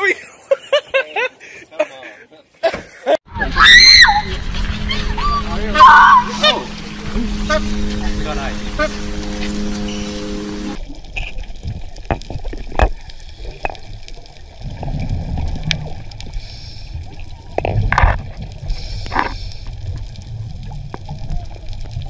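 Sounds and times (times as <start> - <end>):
low rumbling underwater noise: 3.3 - 22.0.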